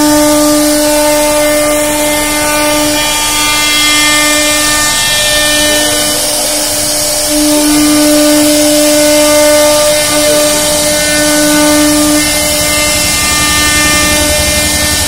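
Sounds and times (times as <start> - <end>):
bit cutting wood hiss: 0.0 - 15.0
router spindle high whine: 0.0 - 15.0.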